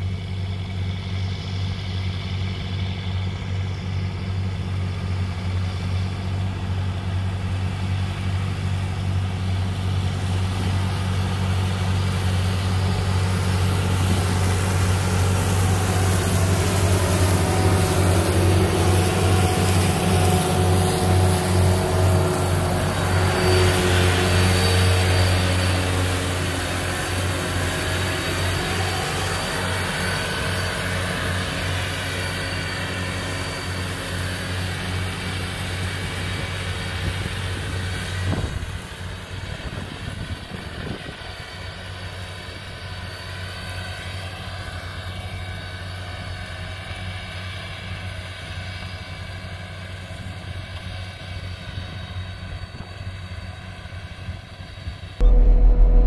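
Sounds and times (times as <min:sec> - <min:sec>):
quiet engine drone: 0:00.0 - 0:43.4, 0:52.0 - 0:56.0
farm machine engine hum: 0:00.0 - 0:56.0.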